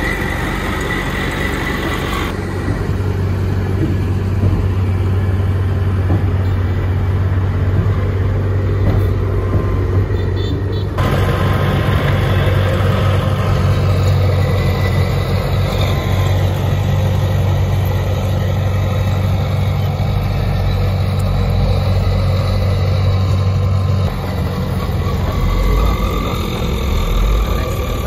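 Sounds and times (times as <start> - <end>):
heavy diesel engines humming: 0.0 - 28.0.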